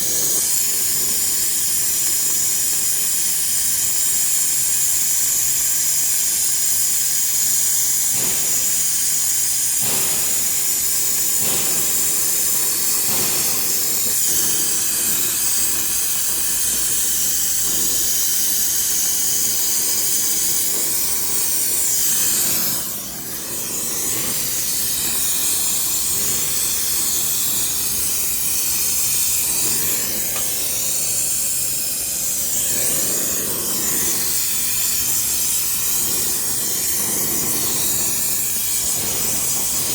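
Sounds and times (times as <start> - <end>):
gas torch flame hissing: 0.0 - 39.9.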